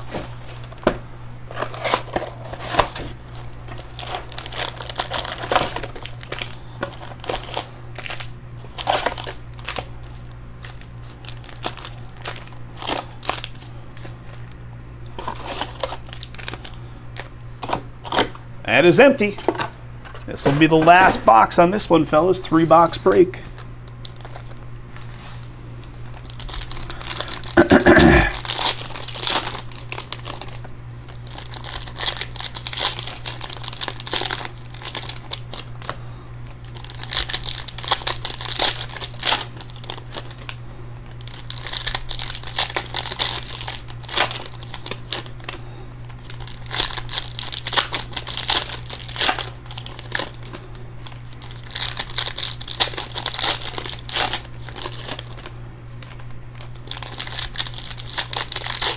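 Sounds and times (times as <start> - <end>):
foil wrappers tearing and crinkling: 1.5 - 14.5, 15.2 - 18.4, 22.6 - 24.6, 25.9 - 58.9.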